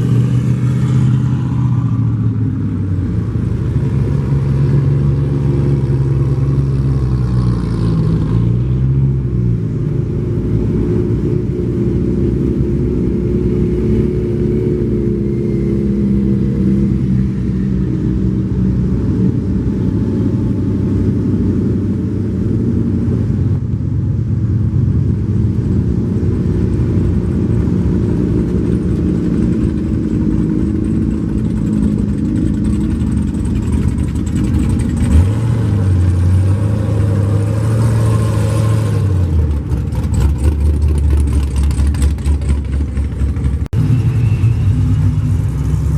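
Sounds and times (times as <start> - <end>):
car engines rumbling and revving: 0.0 - 45.9.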